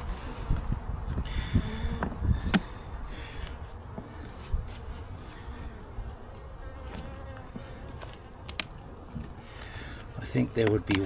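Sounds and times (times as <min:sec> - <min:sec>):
honeybees buzzing: 0:01.3 - 0:10.4.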